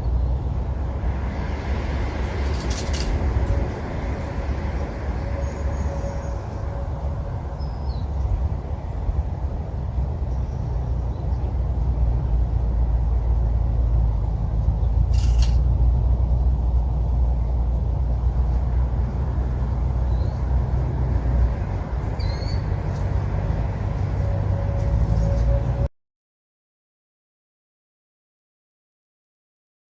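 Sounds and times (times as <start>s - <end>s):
low rumble: 0.0s - 25.9s.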